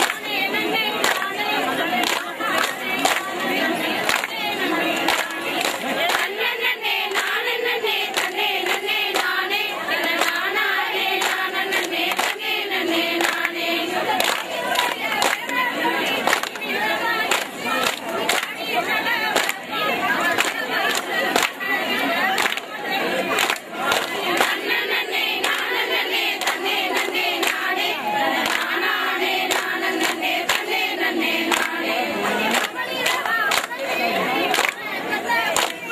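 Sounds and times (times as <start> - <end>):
hands clapping in rhythm: 0.0 - 35.9
women singing folk song: 0.0 - 35.9.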